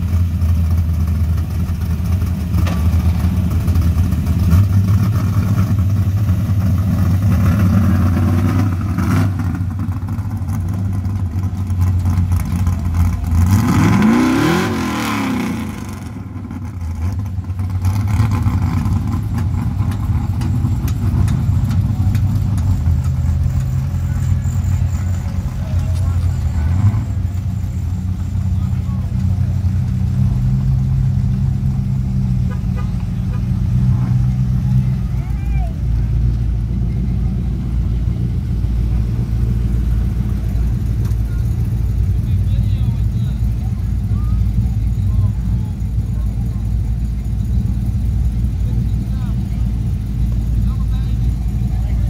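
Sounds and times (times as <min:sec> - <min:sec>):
car engines rumbling past: 0:00.0 - 0:52.0.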